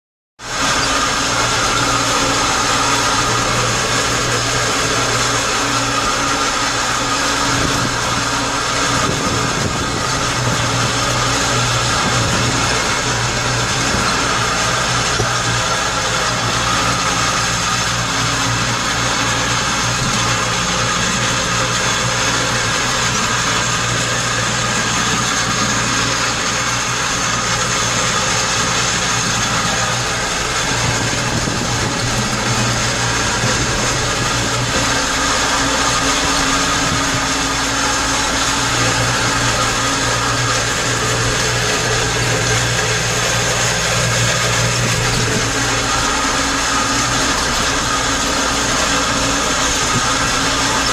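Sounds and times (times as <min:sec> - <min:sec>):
tractor diesel engine drone: 0:00.4 - 0:50.9.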